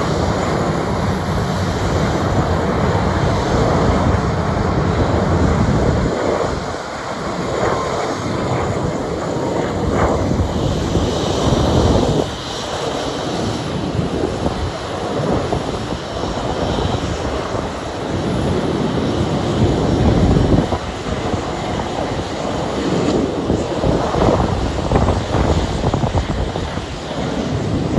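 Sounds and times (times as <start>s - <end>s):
jet engines at taxi power: 0.0s - 27.9s.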